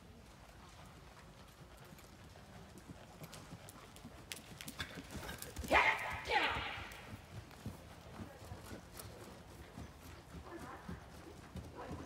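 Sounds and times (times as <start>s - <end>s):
horse hoofbeats on soft dirt: 0.0s - 12.0s.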